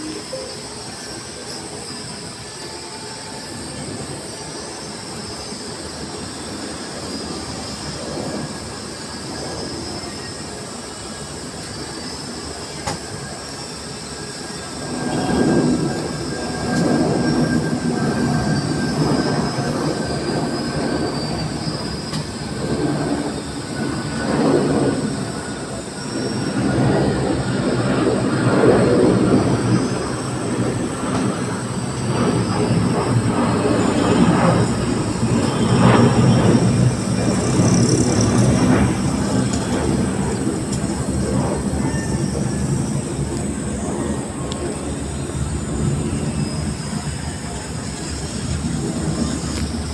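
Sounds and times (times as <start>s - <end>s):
aircraft rumbling on the ground: 0.0s - 49.9s
airliner engines running: 0.0s - 49.9s.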